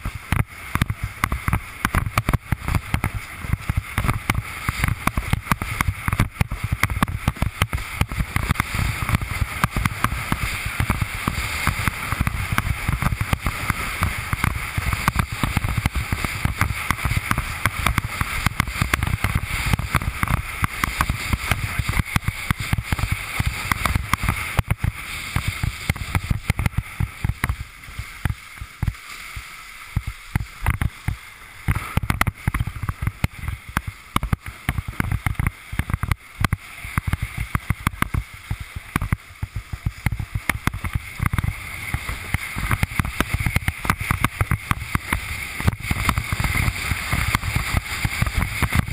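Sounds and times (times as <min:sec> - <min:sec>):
board slapping waves: 0:00.0 - 0:48.9
water rushing under board: 0:00.0 - 0:48.9.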